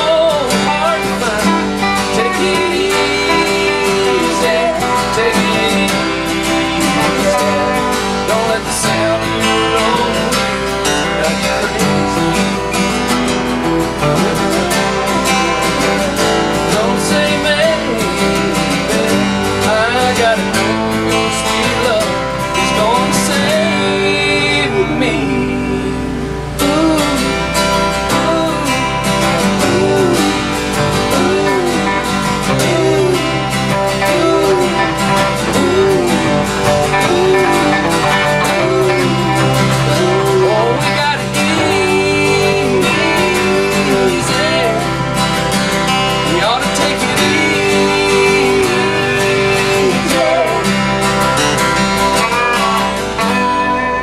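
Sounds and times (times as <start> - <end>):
country-rock guitar jam: 0.0 - 54.0.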